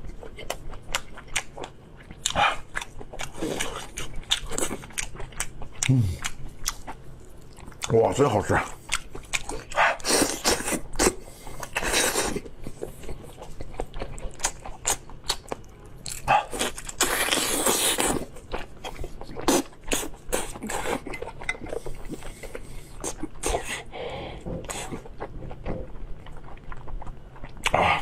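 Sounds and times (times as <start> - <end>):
person chewing meat: 0.0 - 28.0.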